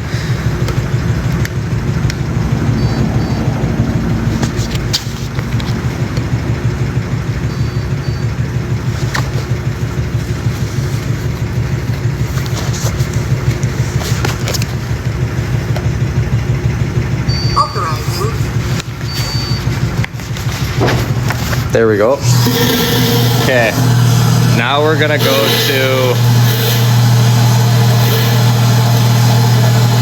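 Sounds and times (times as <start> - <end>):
motor humming: 0.0 - 30.0.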